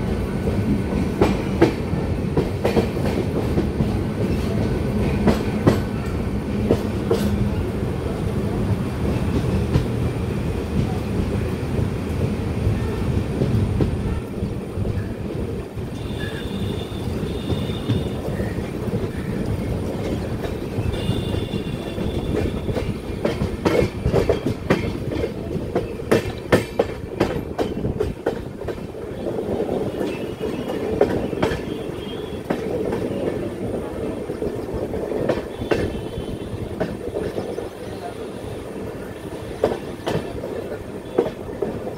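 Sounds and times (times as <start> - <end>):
clickety-clack over rail joints: 0.0 - 41.9
train wheel rumble: 0.0 - 41.9.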